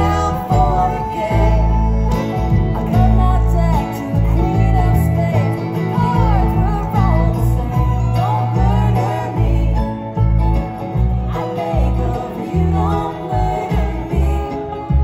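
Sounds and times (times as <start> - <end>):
bluegrass band playing: 0.0 - 15.0
upright bass: 0.0 - 15.0.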